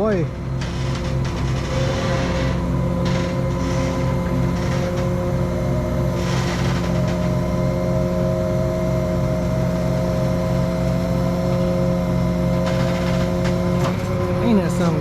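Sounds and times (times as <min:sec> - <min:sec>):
heavy machine engine droning: 0:00.0 - 0:15.0.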